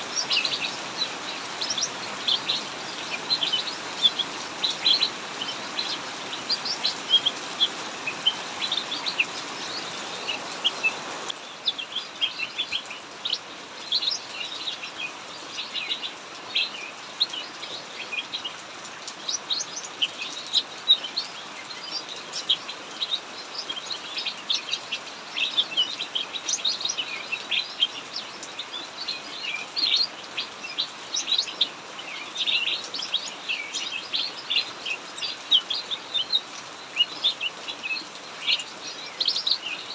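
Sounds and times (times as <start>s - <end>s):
heavy rain hissing: 0.0s - 39.9s
songbirds chirping: 0.0s - 39.9s.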